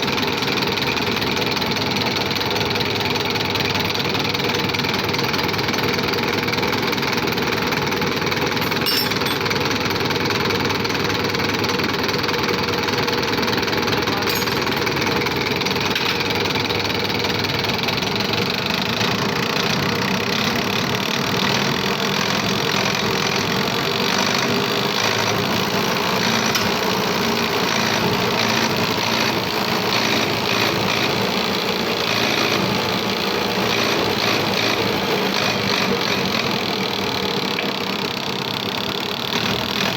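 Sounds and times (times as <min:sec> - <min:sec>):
injection pump mechanical chatter: 0:00.0 - 0:39.7.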